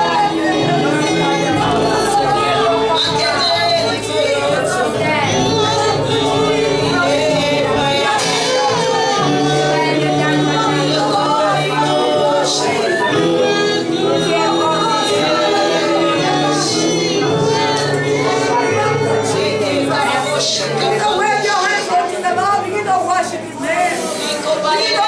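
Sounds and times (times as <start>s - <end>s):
keyboard chords: 0.0s - 23.8s
bass: 0.0s - 25.0s
male and female voices singing: 0.0s - 25.0s.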